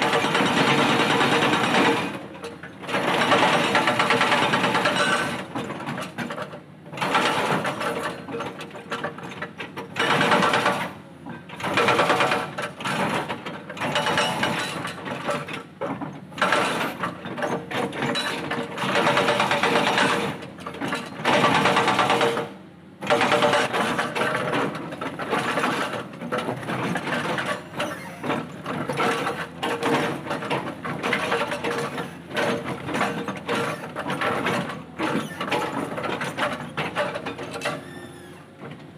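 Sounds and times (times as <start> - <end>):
hydraulic breaker hammering rock: 0.0 - 6.4, 7.0 - 11.0, 11.6 - 38.0.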